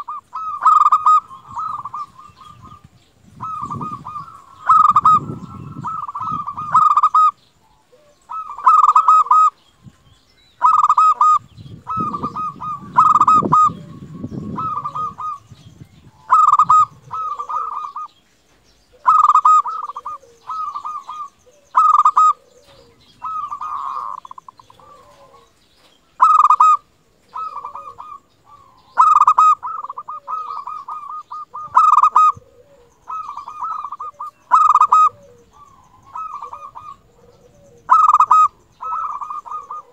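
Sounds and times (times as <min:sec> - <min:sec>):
dove cooing: 0:00.0 - 0:18.2, 0:18.8 - 0:39.9.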